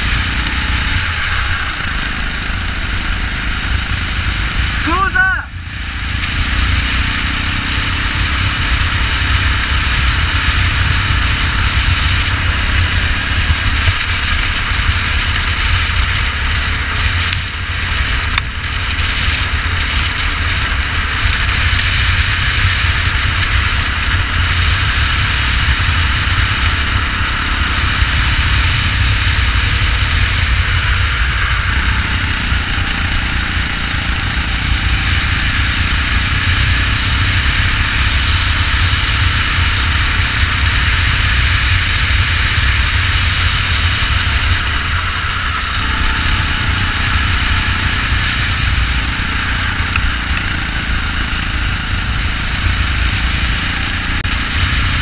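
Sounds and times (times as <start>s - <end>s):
go-kart engine rumble: 0.0s - 55.0s.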